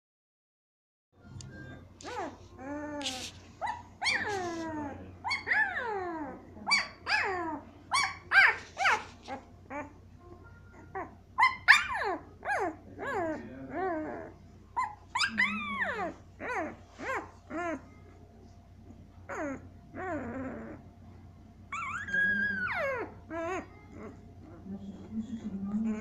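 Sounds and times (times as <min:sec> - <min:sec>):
puppies crying: 0:01.6 - 0:18.2, 0:18.8 - 0:20.9, 0:21.7 - 0:24.8.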